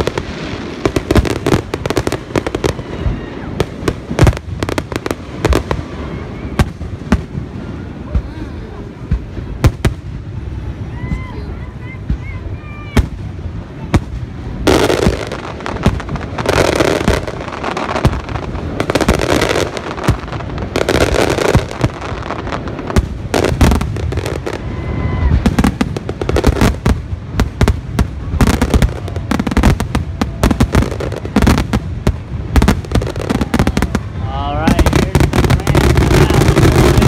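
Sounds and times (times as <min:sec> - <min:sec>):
firework crackling: 0:00.0 - 0:37.0.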